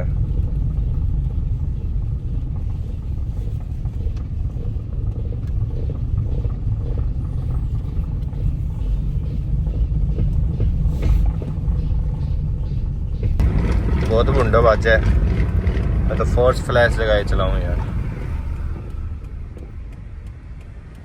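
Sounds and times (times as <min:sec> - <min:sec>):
tyre and road noise: 0:00.0 - 0:21.0.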